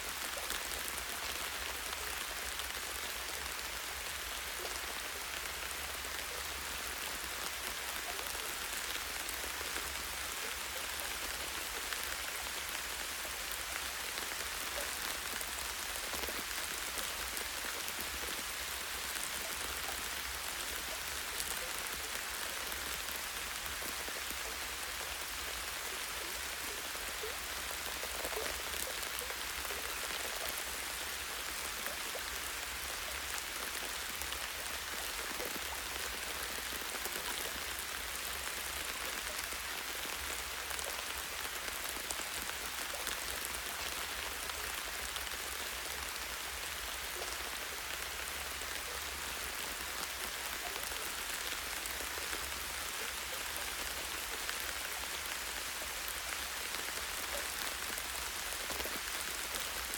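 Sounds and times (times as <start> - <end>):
light rain on leaves: 0.0 - 59.9.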